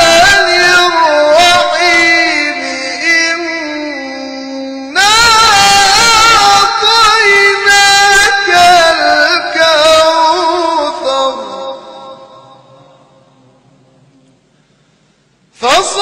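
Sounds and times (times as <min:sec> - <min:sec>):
man chanting melodic recitation: 0:00.0 - 0:14.1, 0:15.6 - 0:16.0.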